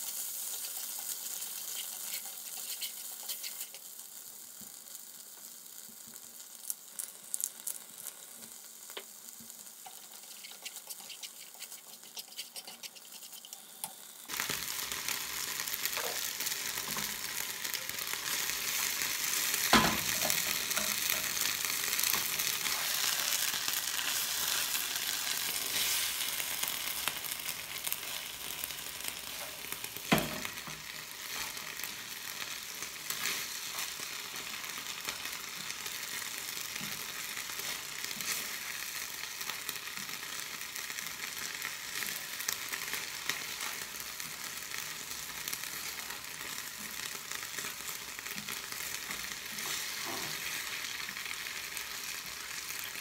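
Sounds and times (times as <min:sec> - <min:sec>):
sauce sizzling in a frying pan: 0:00.0 - 0:53.0.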